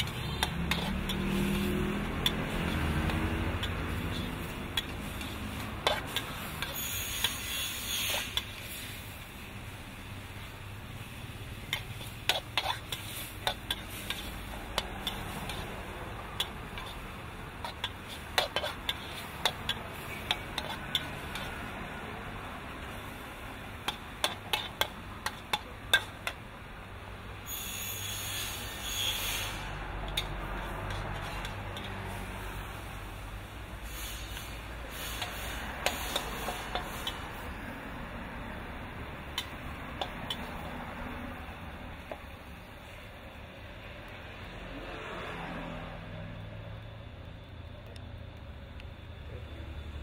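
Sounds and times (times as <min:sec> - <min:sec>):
food sizzling: 0:00.0 - 0:43.4.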